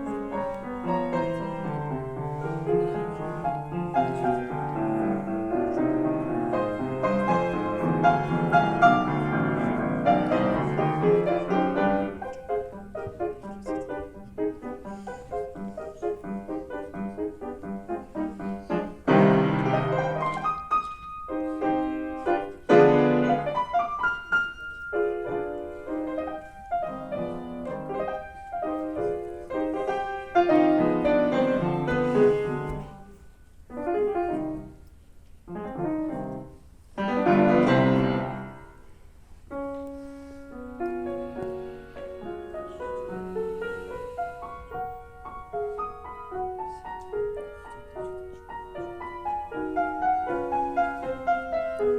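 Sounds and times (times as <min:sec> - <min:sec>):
solo piano classical piece: 0:00.0 - 0:51.9.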